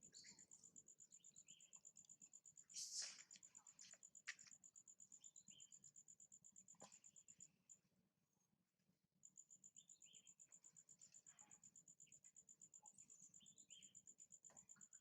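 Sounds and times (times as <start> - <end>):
insect chirping: 0.0 - 7.8, 9.2 - 15.0.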